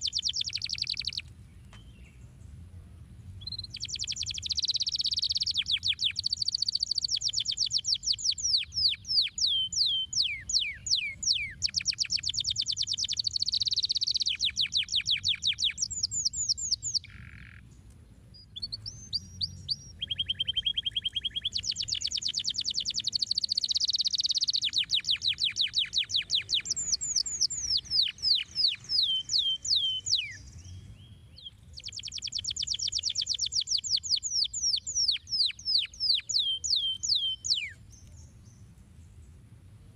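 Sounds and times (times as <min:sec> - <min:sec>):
canary singing trills: 0:00.0 - 0:02.2, 0:03.4 - 0:38.7.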